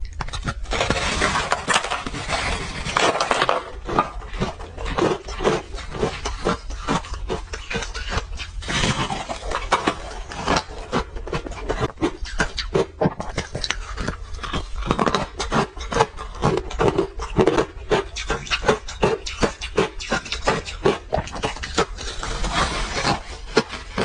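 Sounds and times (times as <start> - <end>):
crunching and chewing frozen ice: 0.0 - 24.0.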